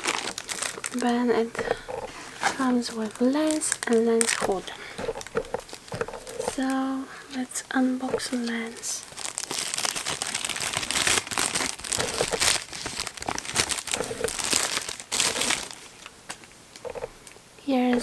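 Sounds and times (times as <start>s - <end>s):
packaging crinkling and rustling: 0.0s - 6.9s, 8.0s - 18.0s.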